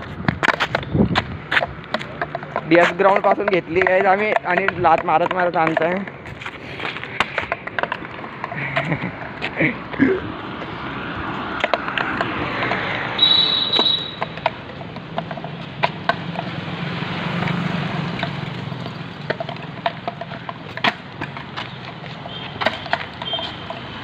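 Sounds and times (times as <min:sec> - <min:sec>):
footsteps: 0:00.0 - 0:24.0
passing street traffic: 0:00.0 - 0:24.0
plastic bottle clattering on asphalt: 0:00.1 - 0:24.0.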